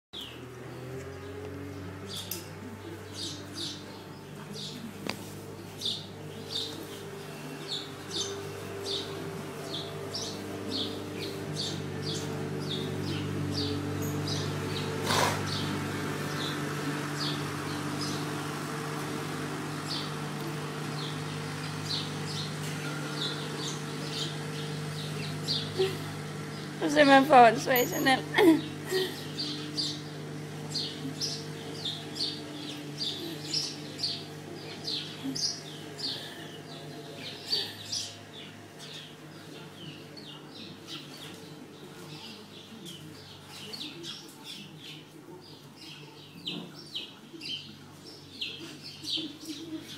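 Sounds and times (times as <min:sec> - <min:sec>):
small birds chirping: 0:00.2 - 0:49.9.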